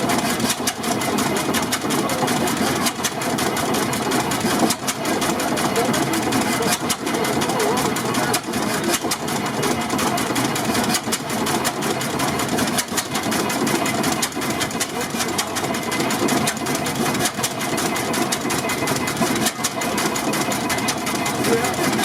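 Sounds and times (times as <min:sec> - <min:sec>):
tractor engine clattering: 0:00.0 - 0:22.0.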